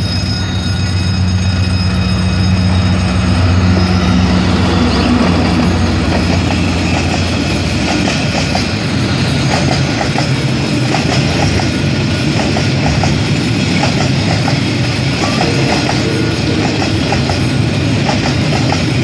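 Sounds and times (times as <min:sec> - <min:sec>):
locomotive engine drone: 0:00.0 - 0:19.0
train wheels rumbling on rails: 0:00.0 - 0:19.0.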